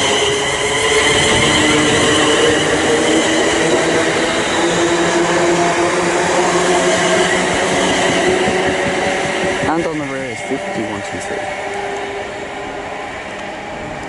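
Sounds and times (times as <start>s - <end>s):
traction motors whining: 0.0s - 14.0s
train rumble and hiss: 0.0s - 14.0s.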